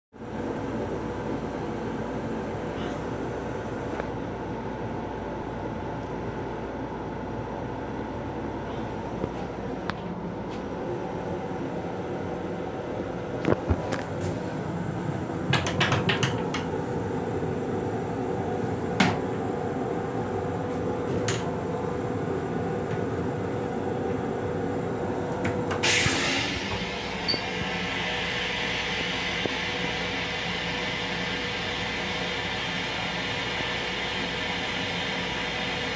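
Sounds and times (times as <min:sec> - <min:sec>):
railcar rumble and hum: 0:00.2 - 0:35.9.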